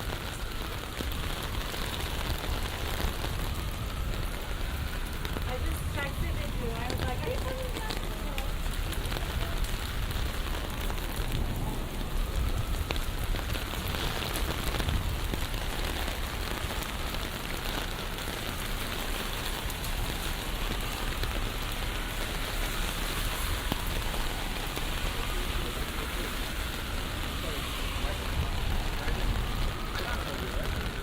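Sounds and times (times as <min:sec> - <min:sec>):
rain falling on street: 0:00.0 - 0:31.0.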